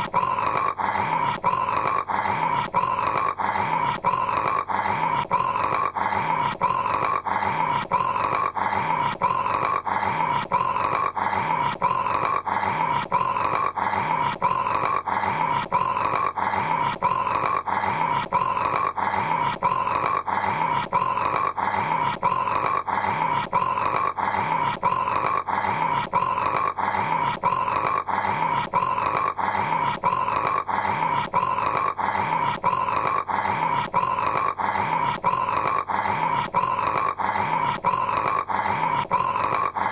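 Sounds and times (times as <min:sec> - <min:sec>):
man snoring: 0:00.0 - 0:39.9.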